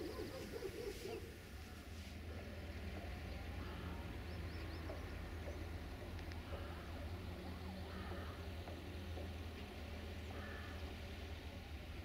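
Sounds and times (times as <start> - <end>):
freight wagons rumbling on rails: 1.2 - 12.0.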